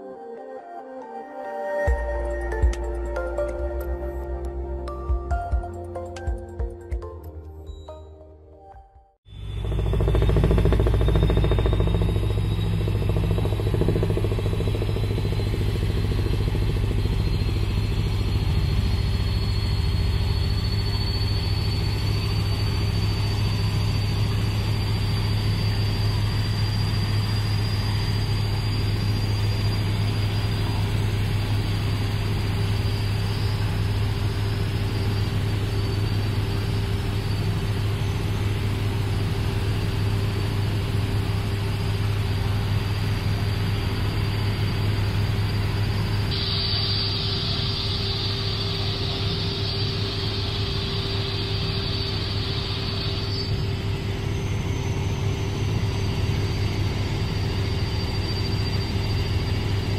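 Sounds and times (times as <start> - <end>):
helicopter drone and whine: 1.9 - 7.1, 9.2 - 59.9.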